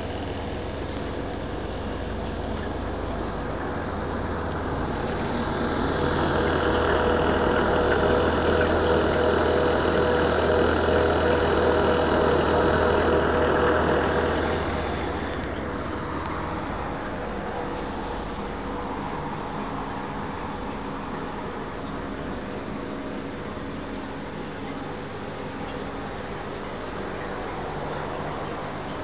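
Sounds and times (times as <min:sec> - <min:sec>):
aquarium pump humming: 0:00.0 - 0:29.0
water circulation rushing: 0:00.0 - 0:29.0.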